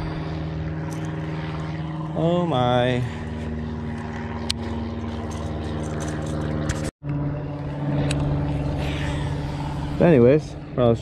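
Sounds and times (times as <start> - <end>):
propeller airplane droning: 0.0 - 11.0.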